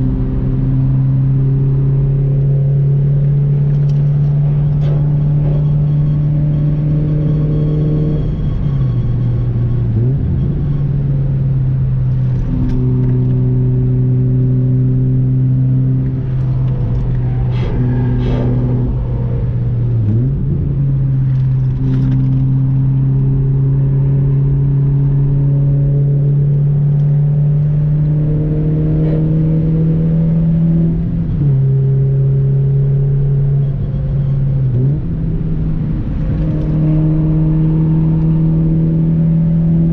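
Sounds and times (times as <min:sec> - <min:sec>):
car engine running under load: 0:00.0 - 0:39.9.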